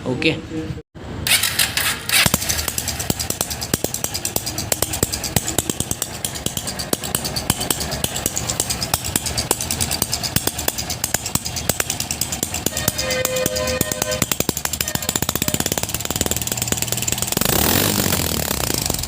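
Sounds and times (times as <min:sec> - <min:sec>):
valve gear ticking: 0:01.9 - 0:19.0.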